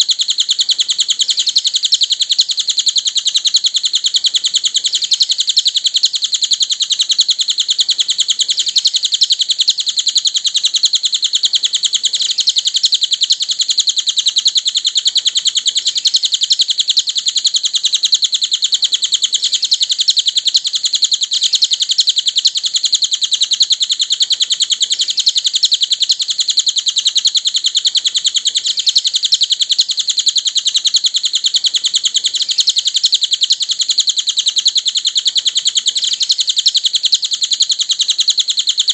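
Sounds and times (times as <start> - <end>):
bird singing rapid high chirps: 0.0 - 38.9.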